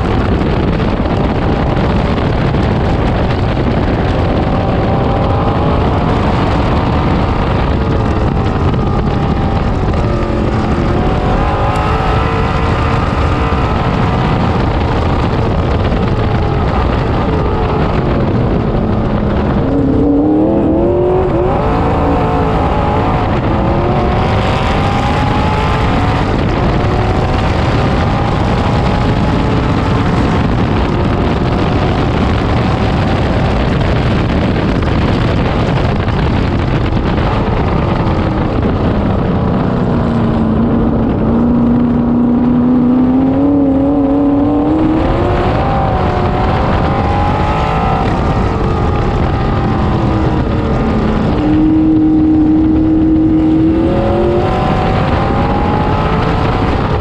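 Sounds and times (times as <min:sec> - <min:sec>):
racecar engine revving: 0:00.0 - 0:57.0.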